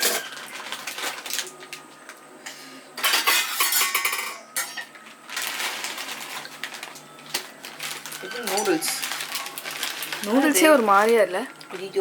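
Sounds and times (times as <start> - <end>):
utensils and dishes clattering: 0.0 - 12.0.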